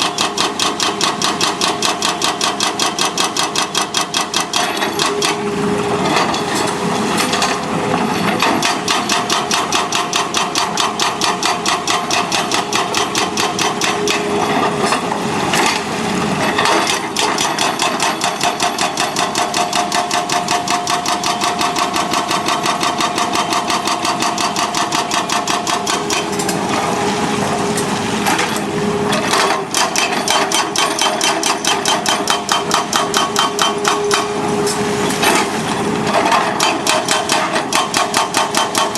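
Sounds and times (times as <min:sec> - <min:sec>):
excavator mechanical knocking: 0:00.0 - 0:15.8, 0:16.4 - 0:26.9, 0:28.3 - 0:34.4, 0:35.2 - 0:38.9
excavator whine: 0:04.2 - 0:38.9.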